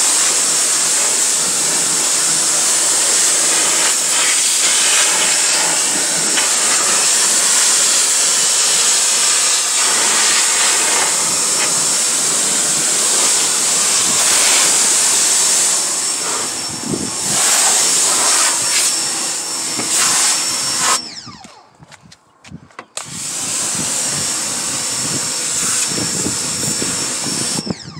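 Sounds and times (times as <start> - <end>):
pressure washer jet hissing on metal: 0.0 - 21.0, 23.0 - 27.6.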